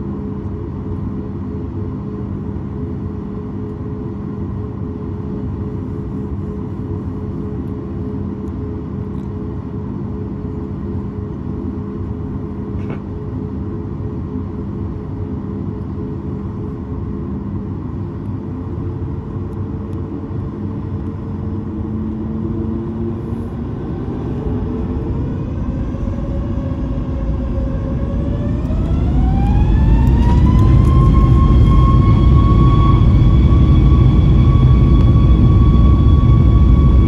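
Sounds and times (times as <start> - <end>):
jet engines rumbling: 0.0 - 37.0
jet engines whining: 0.0 - 37.0.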